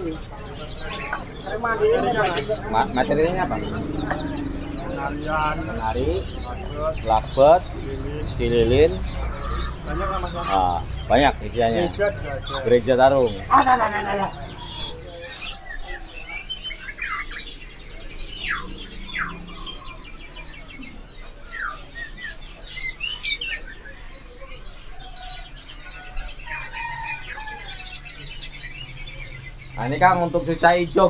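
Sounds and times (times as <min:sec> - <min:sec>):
songbirds chirping and calling: 0:00.0 - 0:31.0.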